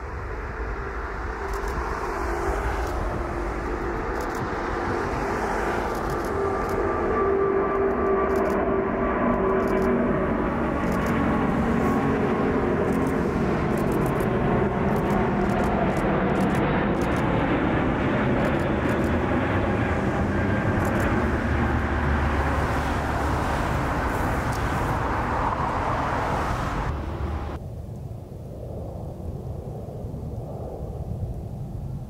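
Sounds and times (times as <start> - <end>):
jet engines running: 0.0 - 27.6.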